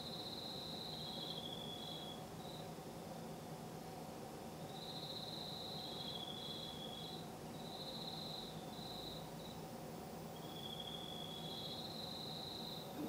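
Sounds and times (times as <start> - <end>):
crickets trilling: 0.0 - 2.7, 4.6 - 13.0
low steady background hum: 0.0 - 13.0.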